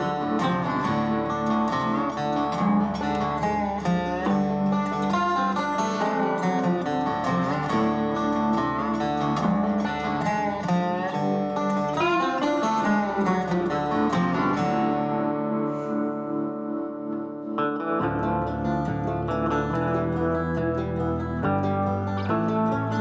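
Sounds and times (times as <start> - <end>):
plucked guitar music: 0.0 - 23.0.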